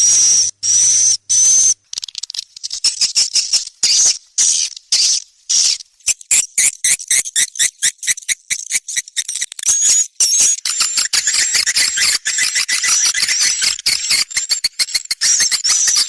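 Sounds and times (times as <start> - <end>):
swiftlet clicks and twittering chirps: 0.0 - 16.0.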